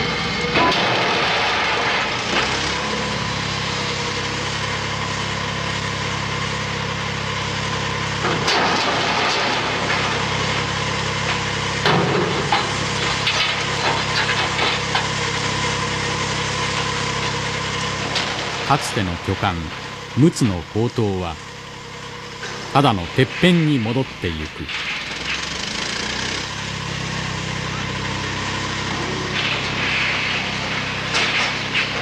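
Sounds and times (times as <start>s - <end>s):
crane engine running: 0.0s - 32.0s.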